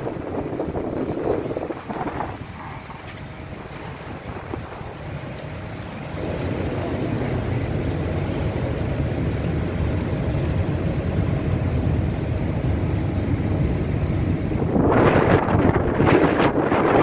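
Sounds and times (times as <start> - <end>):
boat engine rumble: 0.0 - 17.0
wind noise on microphone: 0.0 - 17.0.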